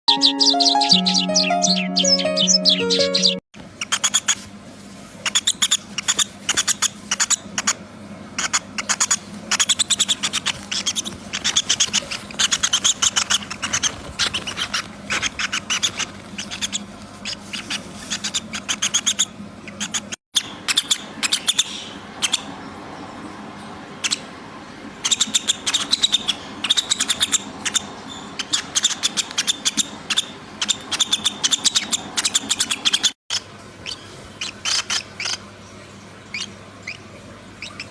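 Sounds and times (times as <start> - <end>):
small birds chirping: 0.1 - 4.4, 5.2 - 7.8, 8.4 - 24.4, 25.0 - 35.5, 36.2 - 37.9.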